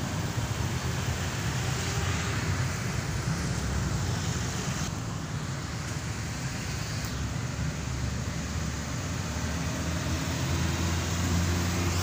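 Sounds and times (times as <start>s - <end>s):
road traffic drone: 0.0s - 12.0s.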